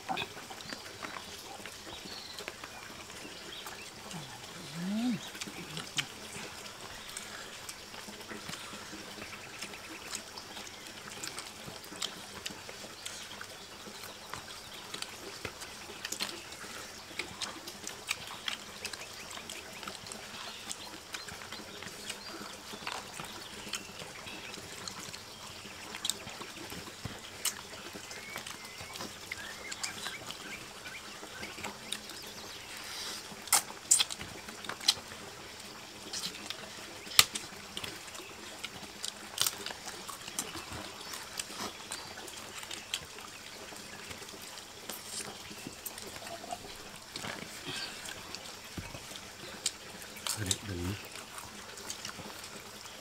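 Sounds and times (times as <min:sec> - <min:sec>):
trickling running water: 0:00.0 - 0:53.0.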